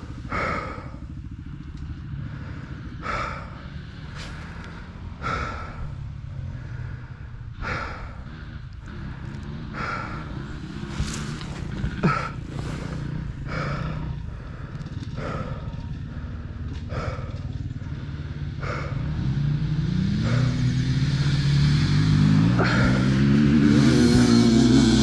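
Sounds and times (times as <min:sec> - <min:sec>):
dirt bike engine revving: 0:00.0 - 0:25.0
rider breathing heavily: 0:00.0 - 0:25.0.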